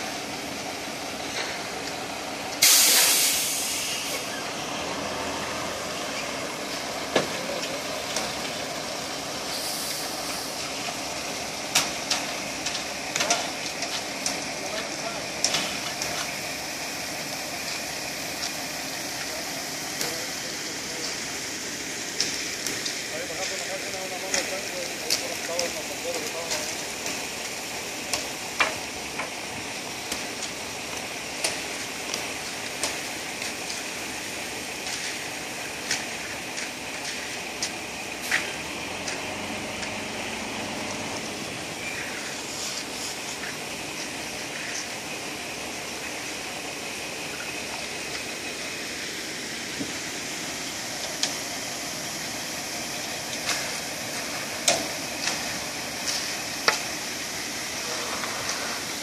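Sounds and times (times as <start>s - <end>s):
concrete pump running: 0.0s - 59.0s.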